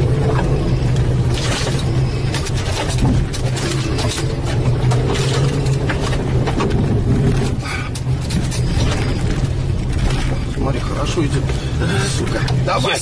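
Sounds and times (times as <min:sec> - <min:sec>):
car engine running: 0:00.0 - 0:13.0
knocks and rattles from jolts: 0:01.2 - 0:13.0.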